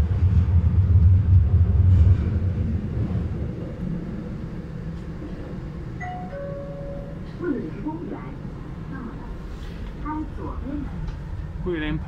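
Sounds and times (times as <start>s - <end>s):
metro train running: 0.0s - 12.0s.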